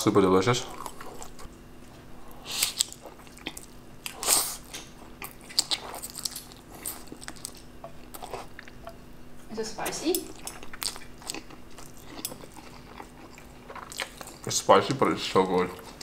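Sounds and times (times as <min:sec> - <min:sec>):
person chewing: 0:00.6 - 0:09.5, 0:10.3 - 0:14.5.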